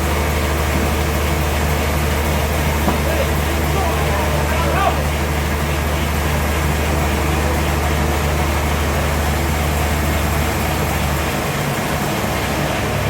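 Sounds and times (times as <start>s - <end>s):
sawmill machinery humming: 0.0s - 13.0s.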